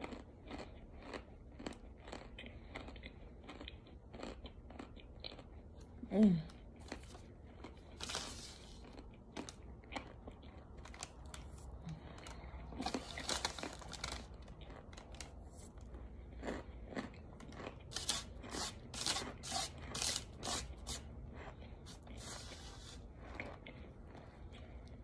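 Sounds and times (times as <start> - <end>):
dry crunchy food being chewed: 0.0 - 25.0.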